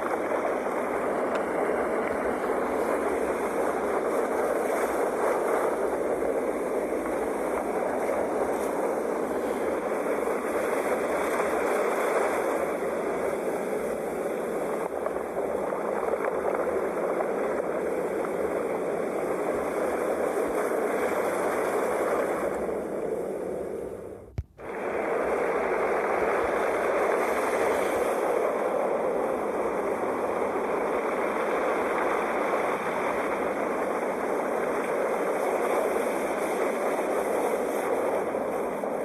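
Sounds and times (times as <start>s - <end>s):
sea waves washing on shore: 0.0s - 39.0s.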